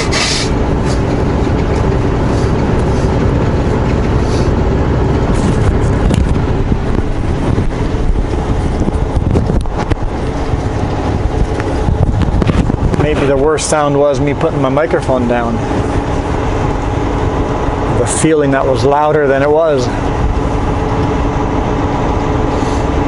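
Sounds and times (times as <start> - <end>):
diesel engine and tyre rumble: 0.0 - 23.0.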